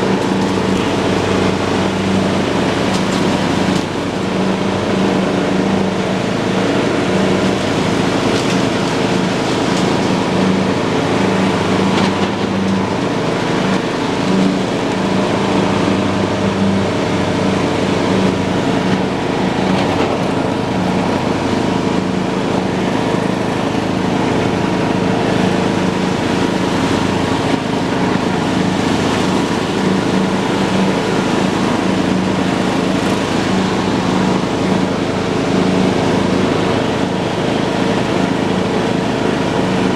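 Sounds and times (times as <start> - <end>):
lawn tractor engine hum: 0.0 - 39.9
mower cutting deck noise: 0.0 - 39.9.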